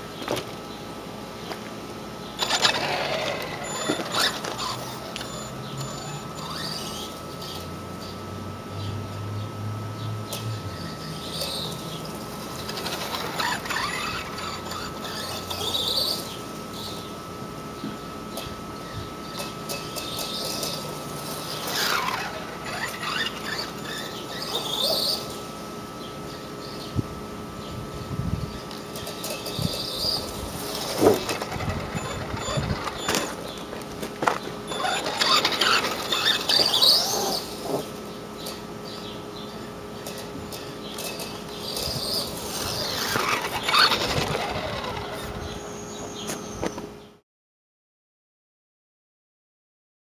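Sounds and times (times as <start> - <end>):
electric motor and gears whining: 1.4 - 46.9.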